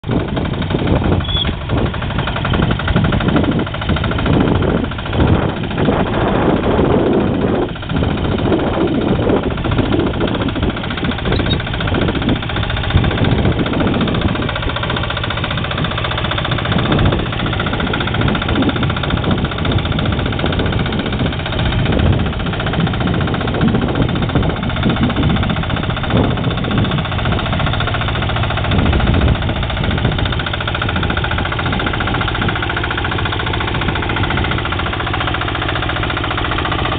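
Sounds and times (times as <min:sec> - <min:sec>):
mini-tractor engine running: 0:00.0 - 0:36.9.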